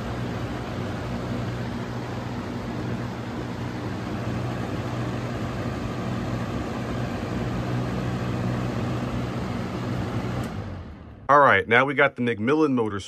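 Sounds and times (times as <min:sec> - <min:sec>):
box fan motor hum: 0:00.0 - 0:11.3
fan blades rushing air: 0:00.0 - 0:12.6.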